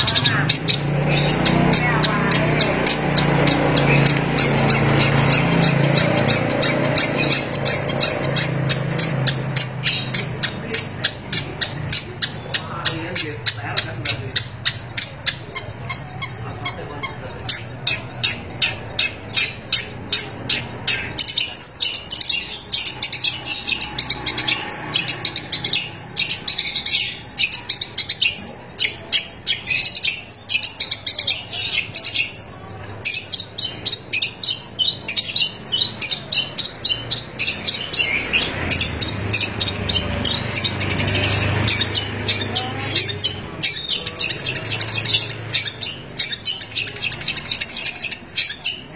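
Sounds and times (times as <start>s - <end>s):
shrike chattering song: 0.0s - 48.9s.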